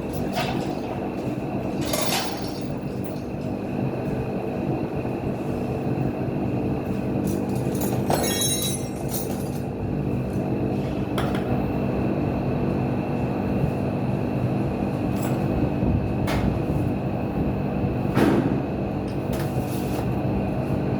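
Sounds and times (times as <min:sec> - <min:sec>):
low machine hum: 0:00.0 - 0:20.9.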